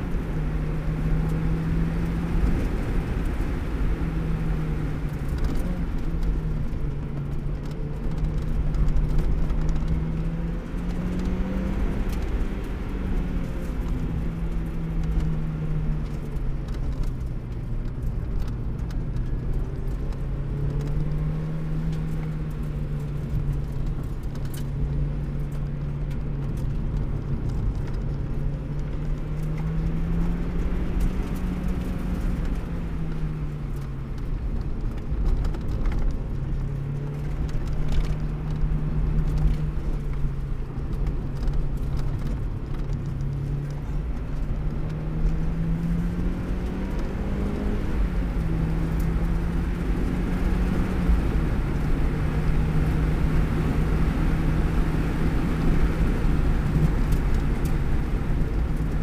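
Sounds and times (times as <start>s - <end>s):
car engine running: 0.0s - 59.0s
road and tyre noise: 0.0s - 59.0s.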